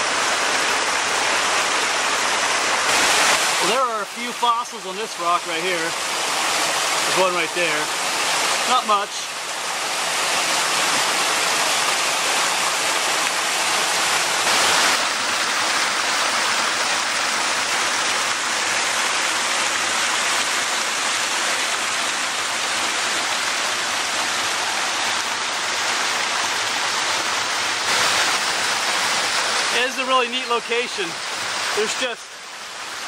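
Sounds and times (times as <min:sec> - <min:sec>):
stream rushing over waterfalls: 0:00.0 - 0:33.0.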